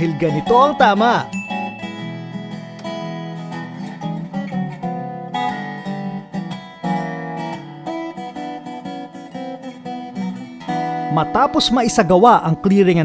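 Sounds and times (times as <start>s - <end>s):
strummed acoustic guitar music: 0.0s - 13.0s.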